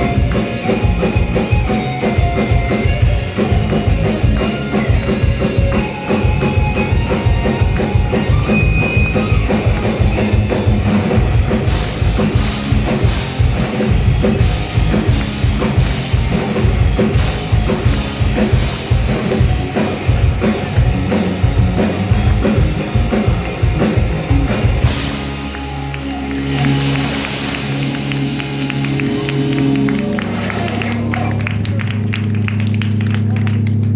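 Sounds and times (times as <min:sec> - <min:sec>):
drum kit: 0:00.0 - 0:33.9
live rock band playing: 0:00.0 - 0:33.9.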